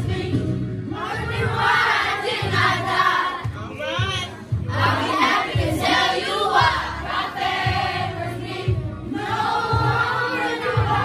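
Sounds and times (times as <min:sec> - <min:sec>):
children's choir singing: 0:00.0 - 0:03.4, 0:04.7 - 0:11.0
steady low beat thumping: 0:00.0 - 0:11.0.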